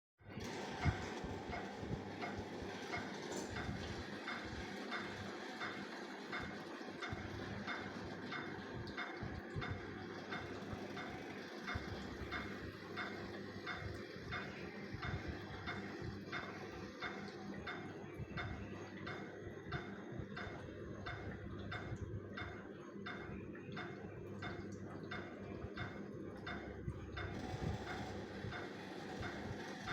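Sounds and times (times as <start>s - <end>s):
steady low hum: 0.2s - 29.9s
cardiac monitor beeping: 0.3s - 29.9s.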